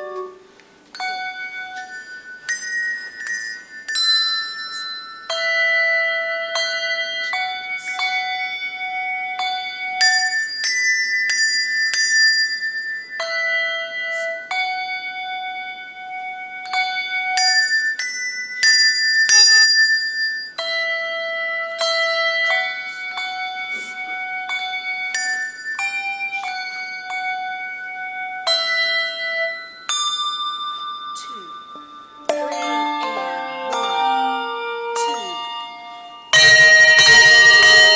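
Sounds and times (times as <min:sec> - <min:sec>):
handbell choir ringing a tune: 0:00.0 - 0:37.9.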